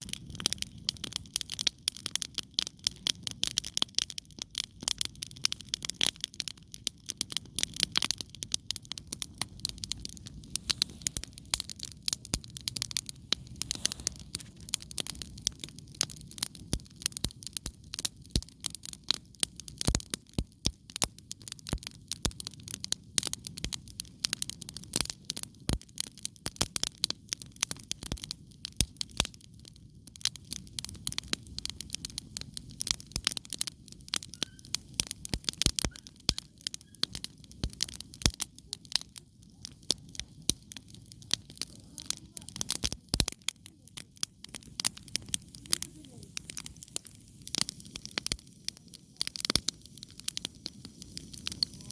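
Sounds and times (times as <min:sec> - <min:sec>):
campfire logs crackling: 0:00.0 - 0:51.9.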